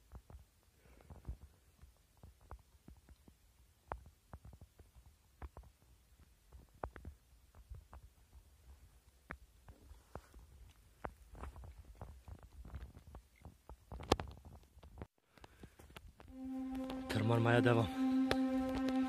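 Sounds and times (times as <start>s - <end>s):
faint footsteps climbing: 0.0s - 16.4s.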